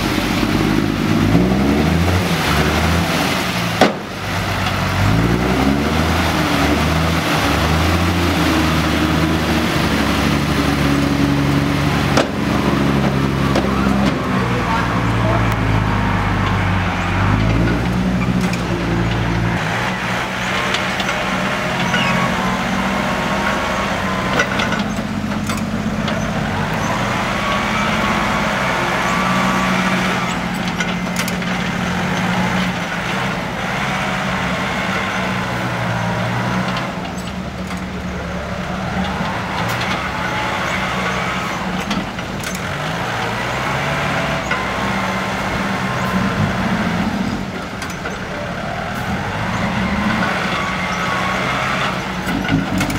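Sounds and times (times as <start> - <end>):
truck engine running: 0.0 - 52.9.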